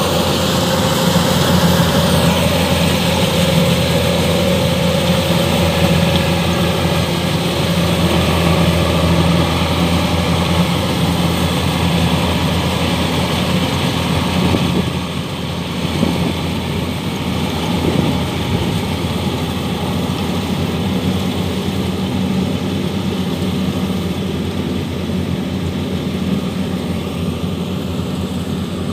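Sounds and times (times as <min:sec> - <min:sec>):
combine harvester engine drone: 0:00.0 - 0:28.9.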